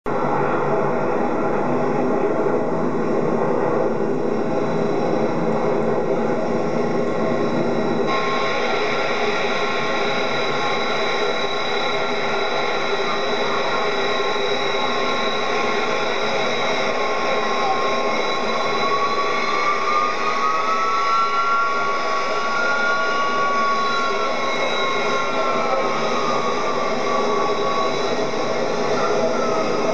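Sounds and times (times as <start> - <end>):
jet engines whining: 0.1 - 29.9.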